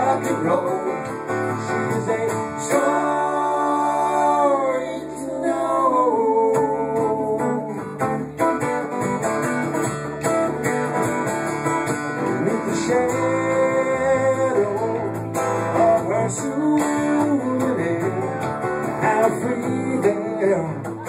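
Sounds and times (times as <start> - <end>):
guitars with bending notes: 0.0 - 21.0
live rock band: 0.0 - 21.0.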